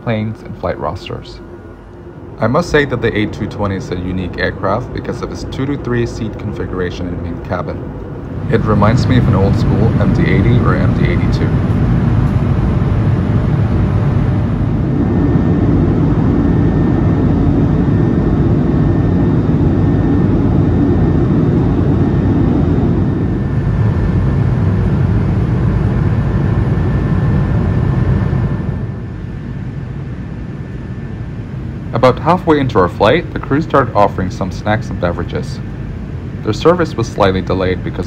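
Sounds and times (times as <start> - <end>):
airflow rush in plane cabin: 0.0 - 38.0
faint steady whine: 0.0 - 38.0
jet engine drone: 0.0 - 38.0.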